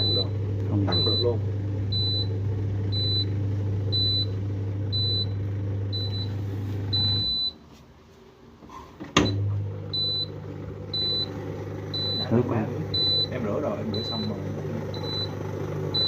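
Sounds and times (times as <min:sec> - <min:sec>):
motor hum: 0:00.0 - 0:07.5, 0:09.2 - 0:16.0
dishwasher beeping: 0:00.0 - 0:07.6, 0:09.1 - 0:16.0.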